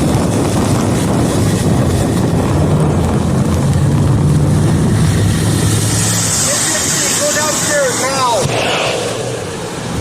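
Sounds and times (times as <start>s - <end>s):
low engine hum: 0.0s - 10.0s
storm rushing rumble: 0.0s - 10.0s
wind buffeting microphone: 0.0s - 10.0s.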